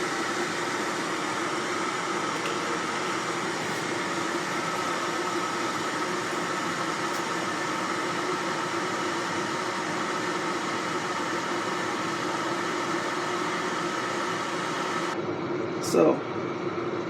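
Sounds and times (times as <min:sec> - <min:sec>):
electric kettle heating water: 0:00.0 - 0:17.0.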